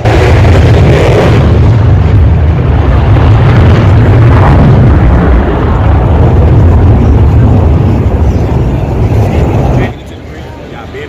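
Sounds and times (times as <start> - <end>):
jet roaring past: 0.0 - 11.0.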